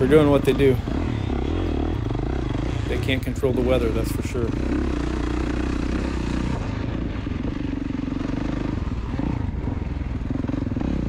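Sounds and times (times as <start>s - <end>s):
dirt bike engine under throttle: 0.0s - 11.0s.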